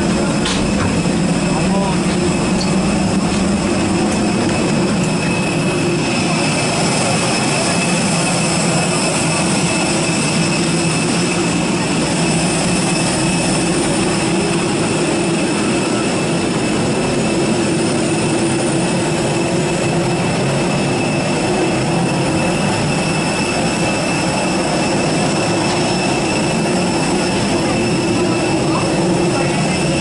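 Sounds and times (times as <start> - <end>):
jet turbine whine and rumble: 0.0 - 30.0.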